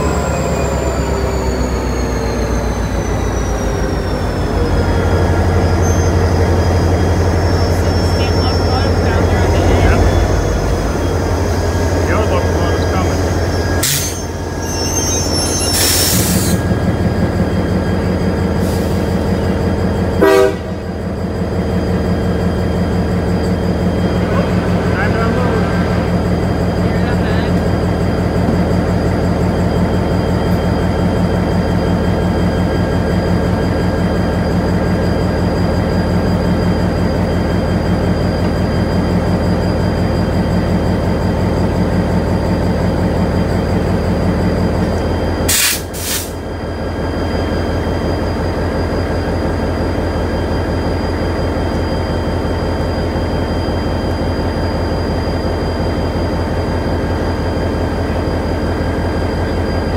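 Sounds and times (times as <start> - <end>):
standing train mechanical drone: 0.0 - 59.9.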